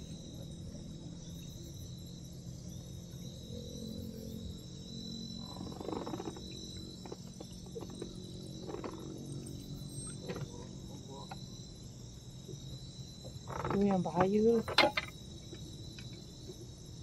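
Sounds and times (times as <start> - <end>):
night insects chirring: 0.0 - 17.0.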